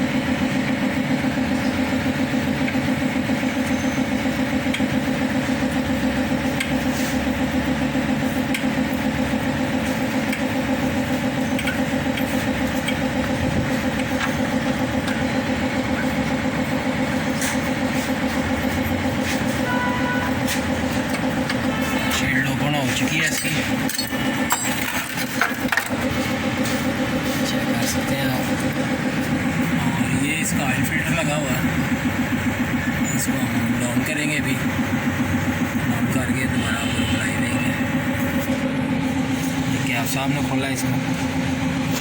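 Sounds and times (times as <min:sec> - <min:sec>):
engine idling: 0:00.0 - 0:42.0.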